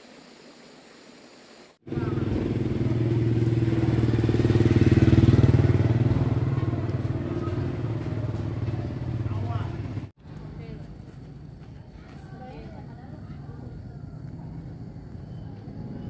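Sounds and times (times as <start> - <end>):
motorcycle engine running: 1.8 - 16.0.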